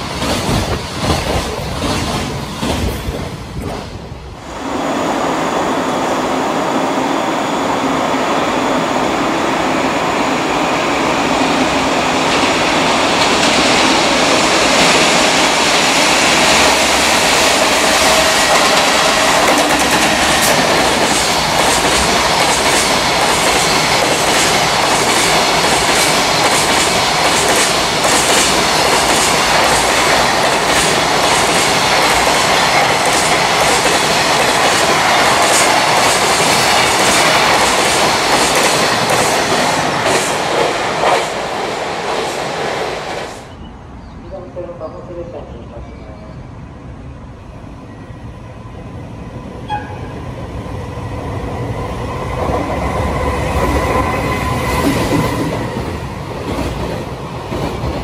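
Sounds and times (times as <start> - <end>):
freight train passing: 0.0 - 58.0.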